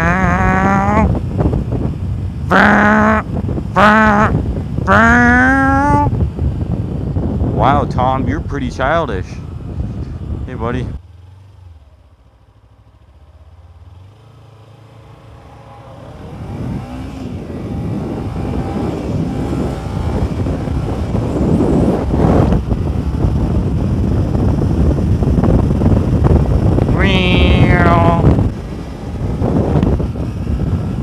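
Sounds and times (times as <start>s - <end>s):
wind rushing over microphone: 0.0s - 11.0s, 14.9s - 31.0s
motorcycle engine accelerating: 0.0s - 31.0s.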